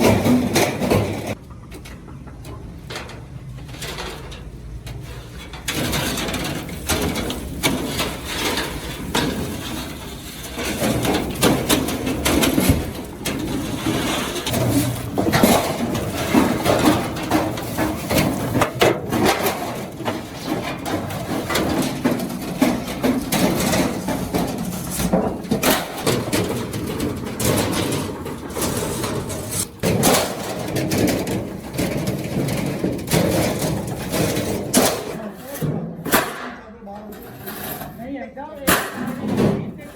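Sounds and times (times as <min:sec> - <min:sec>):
hammer banging on sheet metal: 0:00.0 - 0:01.4, 0:05.6 - 0:36.8, 0:38.6 - 0:39.9
workshop noise: 0:00.0 - 0:39.9.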